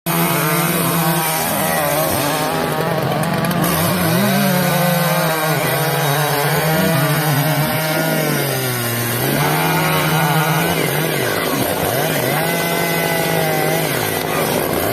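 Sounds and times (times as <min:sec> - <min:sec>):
chainsaw cutting wood: 0:00.1 - 0:14.9.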